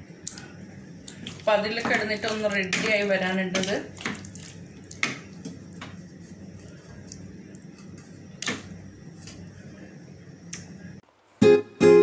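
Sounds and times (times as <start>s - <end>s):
faint cooking noise: 0.0s - 11.5s
stove low hum: 0.0s - 11.6s.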